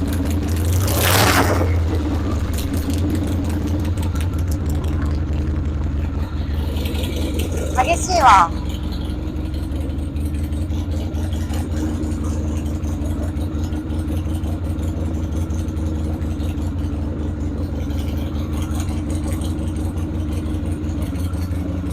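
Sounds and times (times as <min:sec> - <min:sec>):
motorcycle engine idling: 0:00.0 - 0:01.0, 0:01.6 - 0:21.9.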